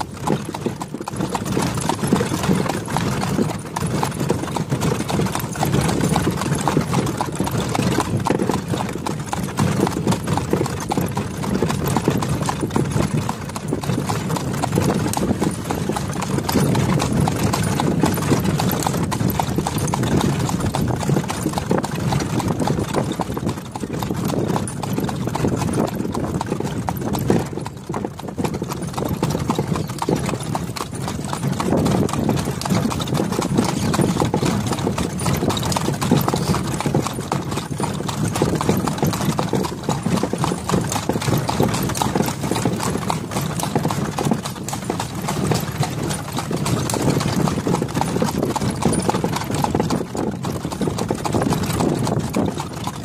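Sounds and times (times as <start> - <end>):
horse hooves clip-clopping on road: 0.0 - 53.0.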